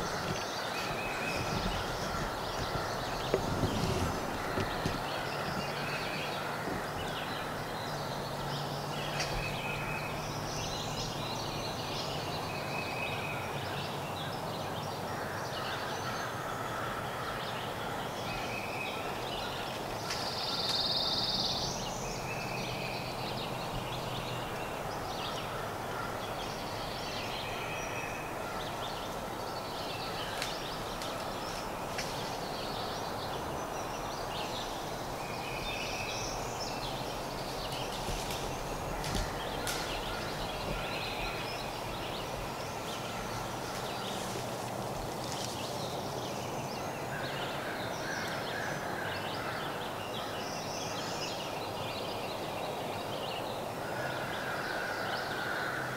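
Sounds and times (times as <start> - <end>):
birds chirping: 0.0 - 55.9
forest background noise: 0.0 - 55.9.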